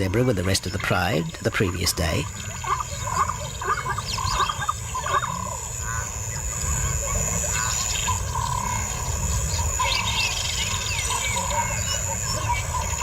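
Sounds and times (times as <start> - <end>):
steady low rumble: 0.0 - 13.0
wild animal calls: 0.0 - 13.0.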